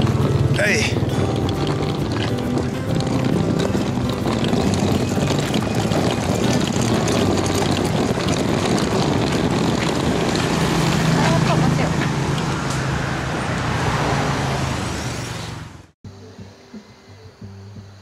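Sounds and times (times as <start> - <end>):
engine drone: 0.0 - 16.0
street noise: 0.0 - 18.0.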